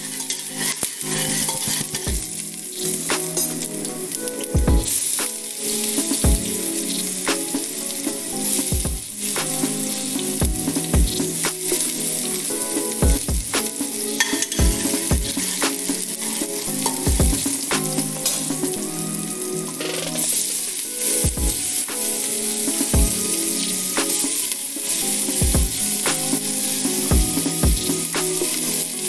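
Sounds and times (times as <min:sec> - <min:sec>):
garlic sizzling in hot oil: 0:00.0 - 0:29.0.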